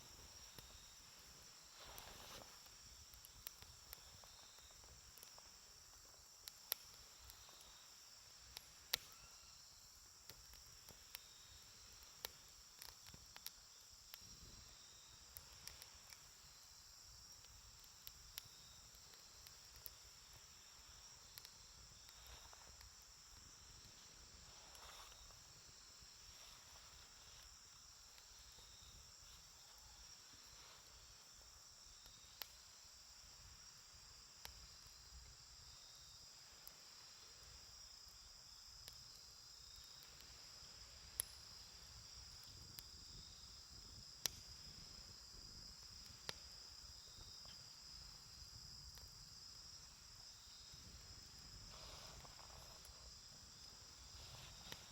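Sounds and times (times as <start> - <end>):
insect chorus: 0.0 - 54.9
campfire popping: 0.1 - 35.7, 36.3 - 50.2, 50.8 - 54.9.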